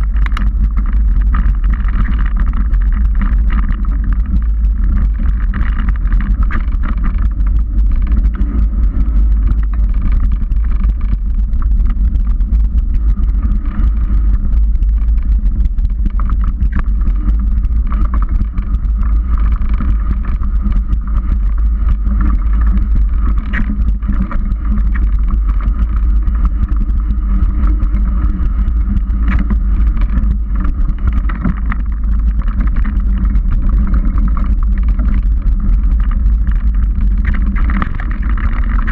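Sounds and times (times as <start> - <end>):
bike tyres and frame rattling: 0.0 - 38.9
small clicks over ground: 0.0 - 38.9.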